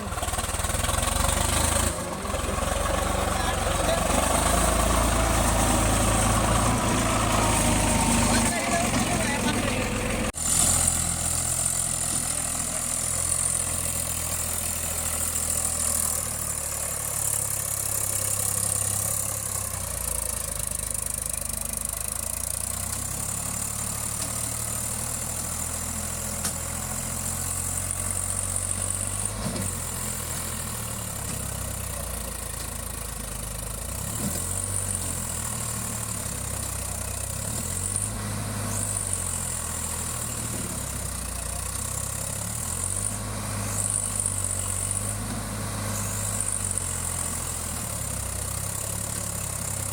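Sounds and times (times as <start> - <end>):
tractor diesel engine droning: 0.0 - 49.9.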